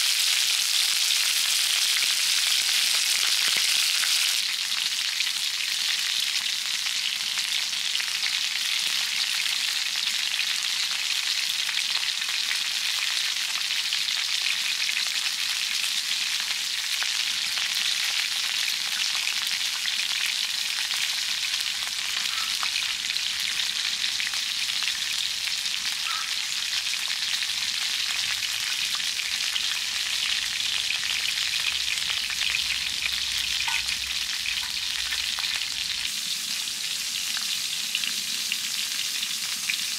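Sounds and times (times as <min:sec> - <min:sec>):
meat sizzling over wood fire: 0:00.0 - 0:39.9.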